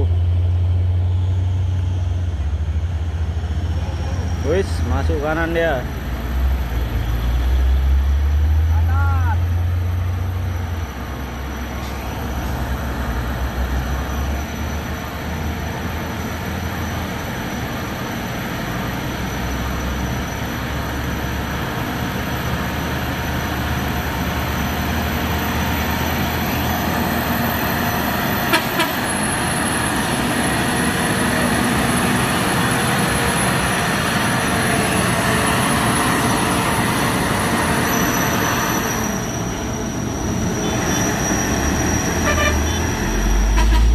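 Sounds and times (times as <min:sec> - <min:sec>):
heavy truck engines running: 0:00.0 - 0:43.9
road traffic noise: 0:00.0 - 0:43.9.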